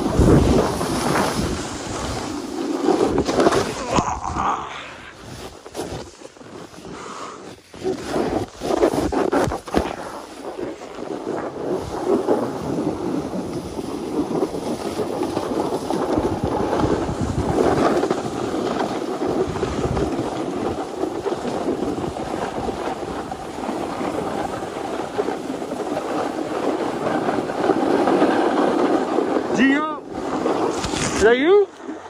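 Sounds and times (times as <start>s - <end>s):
snowboard scraping on snow: 0.0s - 4.0s, 4.6s - 32.0s
wind on microphone: 0.0s - 32.0s.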